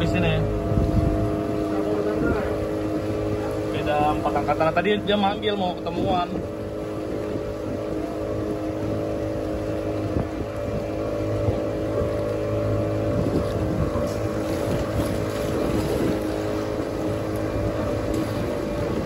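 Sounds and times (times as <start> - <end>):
motorboat engine running: 0.0 - 19.0
water rushing along hull: 0.0 - 19.0
wind buffeting microphone: 0.0 - 19.0.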